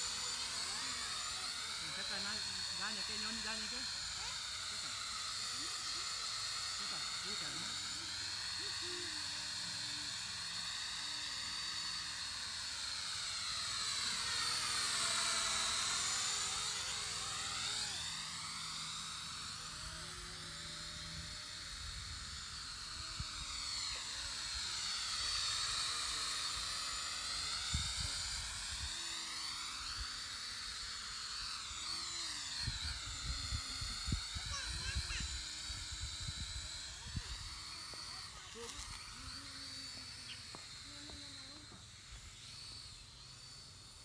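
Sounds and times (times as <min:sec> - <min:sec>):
drone propellers whining: 0:00.0 - 0:44.0.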